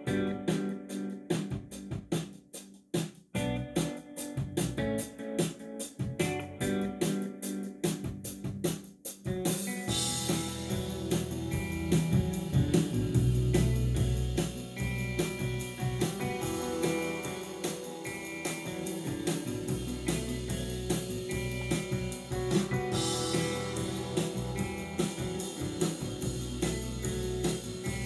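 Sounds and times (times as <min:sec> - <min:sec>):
guitar: 0:00.0 - 0:02.5, 0:03.3 - 0:28.0
band music through speakers: 0:00.0 - 0:28.0
drums and bass beat: 0:00.0 - 0:28.0.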